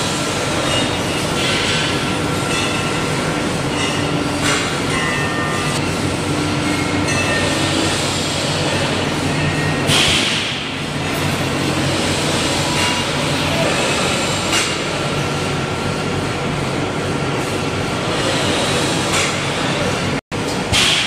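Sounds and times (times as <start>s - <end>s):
factory machinery hum: 0.0s - 21.0s.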